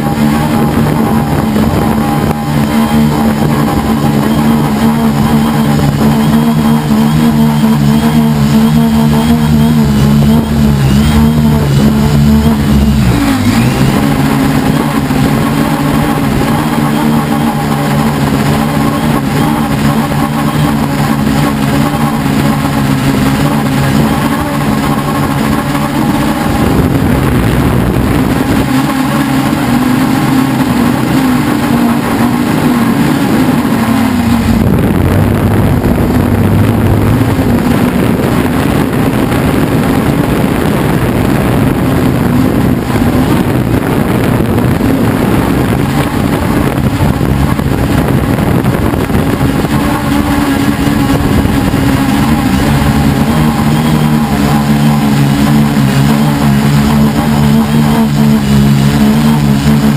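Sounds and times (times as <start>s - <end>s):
drone propellers buzzing: 0.0s - 59.9s
wind rushing: 0.0s - 59.9s.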